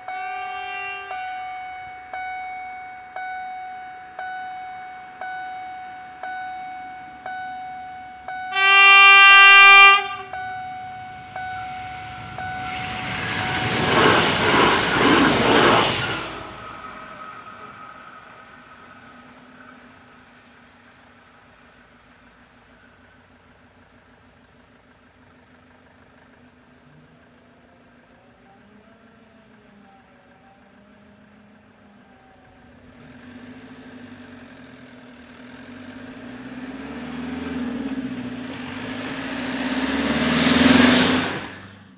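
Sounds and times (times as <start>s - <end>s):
van engine passing: 0.0s - 41.9s.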